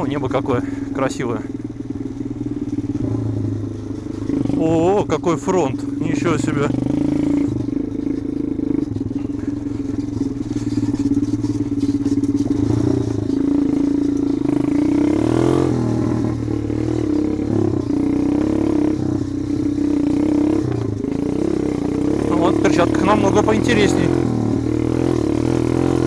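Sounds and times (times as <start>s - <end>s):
pit bike engine running: 0.0s - 26.0s.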